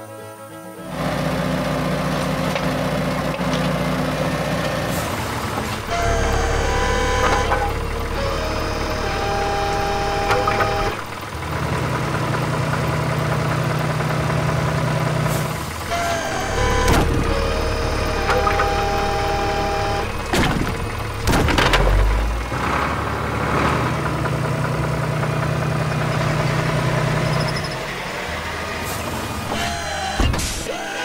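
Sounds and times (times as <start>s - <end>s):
excavator engine running: 0.8s - 31.0s.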